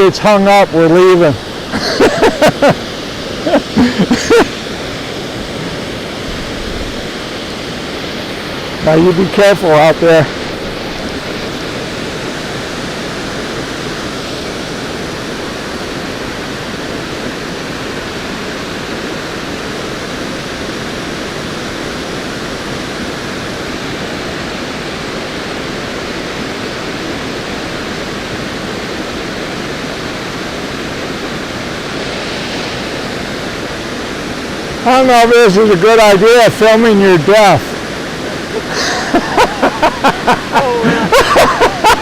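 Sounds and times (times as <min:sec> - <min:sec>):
creek water rushing: 0:00.0 - 0:42.0.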